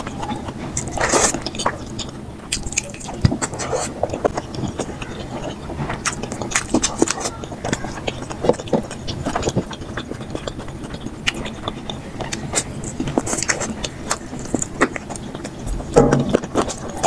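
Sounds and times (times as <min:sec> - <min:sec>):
person chewing and smacking: 0:00.0 - 0:17.0.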